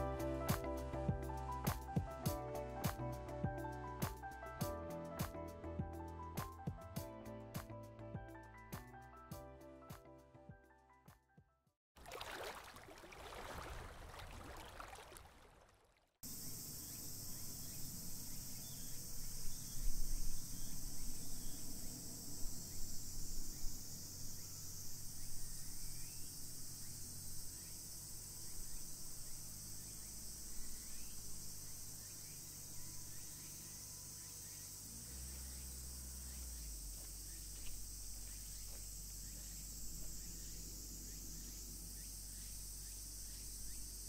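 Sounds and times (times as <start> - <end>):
insect chorus droning: 0.0 - 7.6, 16.2 - 44.0.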